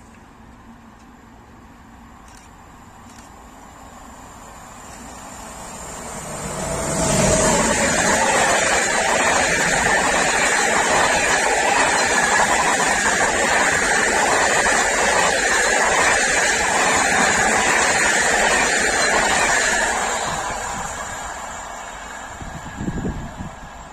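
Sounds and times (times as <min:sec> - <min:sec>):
passenger train passing at high speed: 0:00.0 - 0:23.9.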